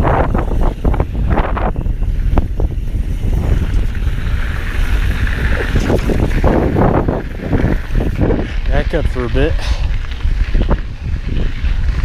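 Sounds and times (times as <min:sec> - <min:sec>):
bike tyres rattling and scraping: 0:00.0 - 0:12.0
wind buffeting microphone: 0:00.0 - 0:12.0.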